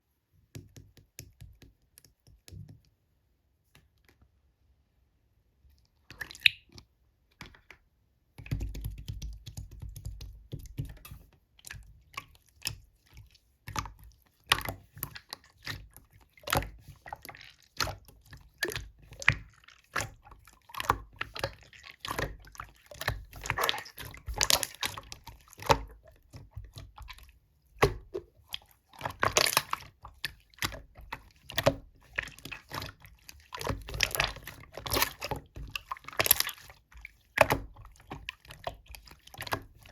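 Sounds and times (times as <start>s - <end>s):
slime squelching by hand: 6.0s - 7.7s, 8.4s - 39.9s.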